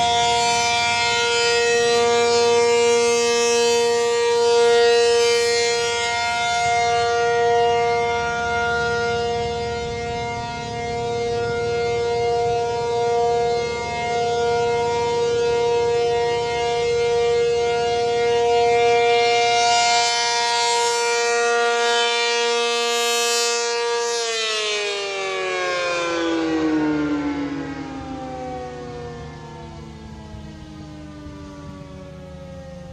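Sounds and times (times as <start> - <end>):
dual-tone siren: 0.0 - 32.9.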